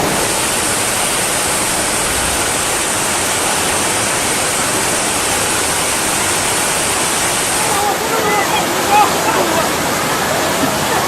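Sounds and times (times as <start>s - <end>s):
loud rush of water: 0.0s - 11.0s.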